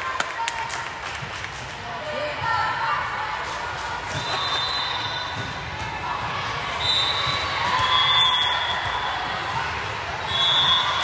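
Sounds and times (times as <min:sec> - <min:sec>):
crowd cheering and shouting: 0:02.1 - 0:11.0.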